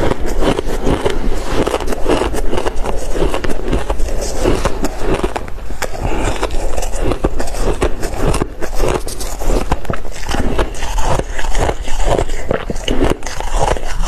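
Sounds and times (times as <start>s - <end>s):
crushed ice crunching when chewed: 0.0s - 14.0s
metal spoon scraping ice: 0.0s - 14.0s.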